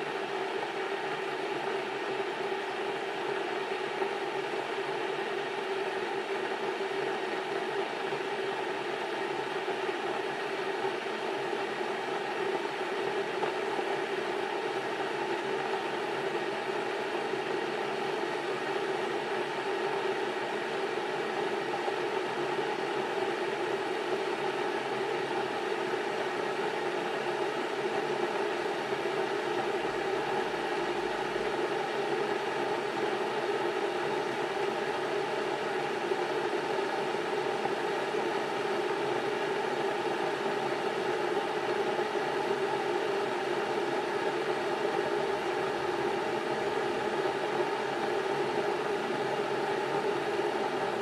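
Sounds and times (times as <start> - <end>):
electric kettle heating water: 0.0 - 51.0.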